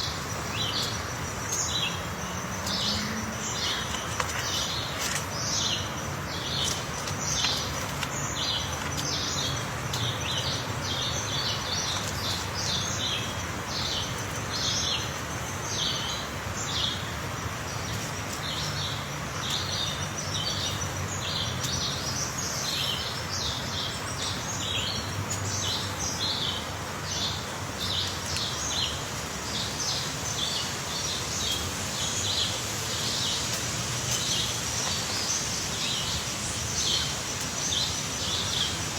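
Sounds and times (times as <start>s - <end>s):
small birds chirping: 0.0s - 38.9s
steady outdoor hiss: 0.0s - 38.9s.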